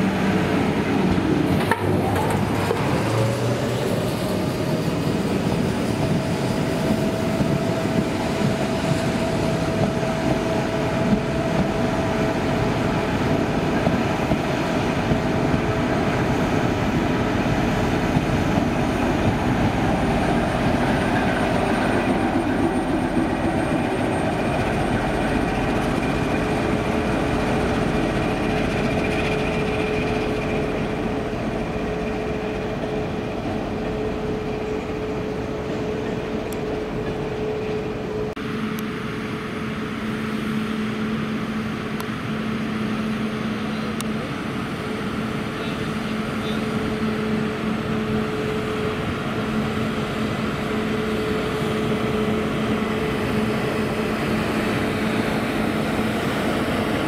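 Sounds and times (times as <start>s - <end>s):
diesel locomotive engine running: 0.0s - 57.0s
train coaches rolling by: 0.0s - 57.0s.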